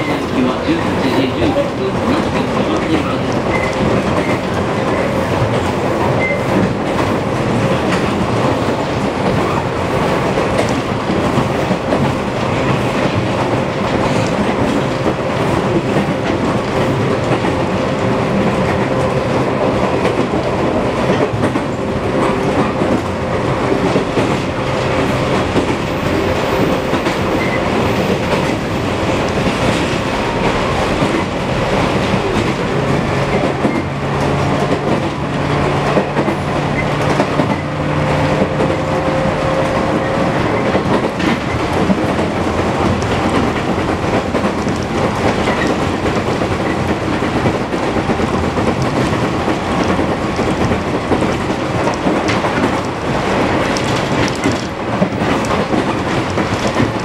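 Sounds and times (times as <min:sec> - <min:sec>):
wheel and rail noise: 0:00.0 - 0:57.0.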